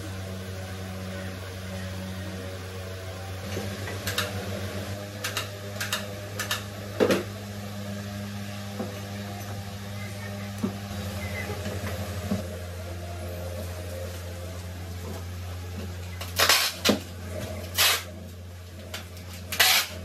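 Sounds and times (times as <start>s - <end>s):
low appliance hum: 0.0s - 20.0s.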